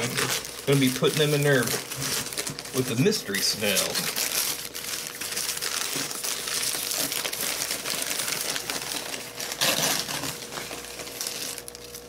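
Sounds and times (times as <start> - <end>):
newspaper crumpling and rustling: 0.0 - 12.0.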